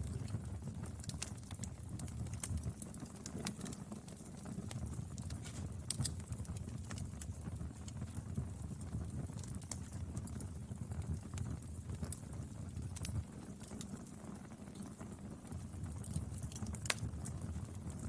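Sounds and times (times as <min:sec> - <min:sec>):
firewood crackling and popping: 0:00.0 - 0:18.0
flames rumbling: 0:00.0 - 0:18.0.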